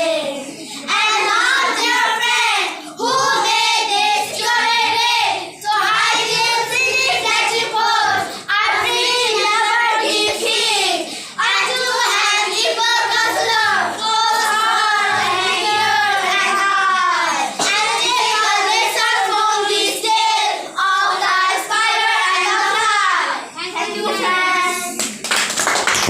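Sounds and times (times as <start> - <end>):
children chanting a poem: 0.0 - 25.0.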